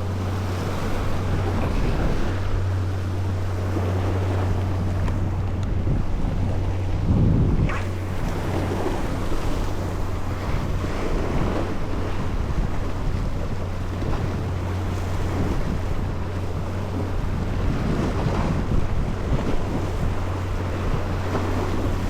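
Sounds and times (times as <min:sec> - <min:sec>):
boat engine hum: 0:00.0 - 0:22.0
wind buffeting microphone: 0:00.0 - 0:22.0.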